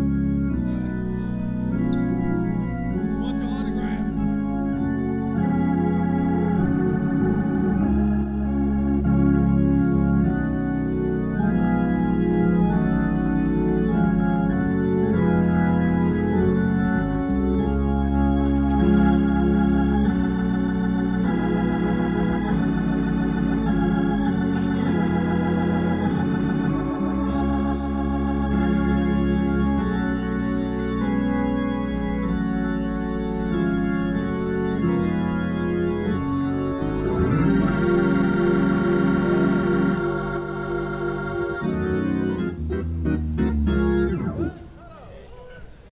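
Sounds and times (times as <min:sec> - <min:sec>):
organ playing held chords: 0:00.0 - 0:45.9.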